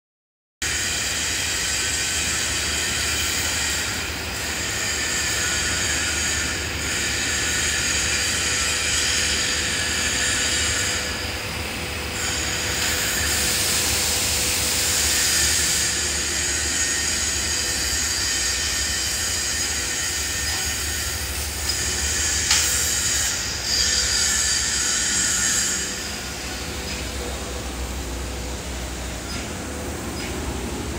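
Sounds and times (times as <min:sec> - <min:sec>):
machinery whine and hiss: 0:00.6 - 0:30.9.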